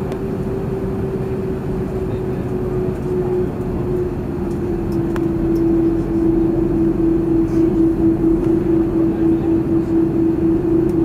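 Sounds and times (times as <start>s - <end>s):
jet engines idling: 0.0s - 11.0s
steady droning tone: 0.0s - 11.0s.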